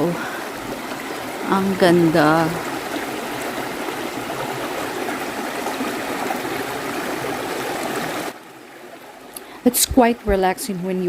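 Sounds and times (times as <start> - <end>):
stream water gushing over rocks: 0.0 - 11.0.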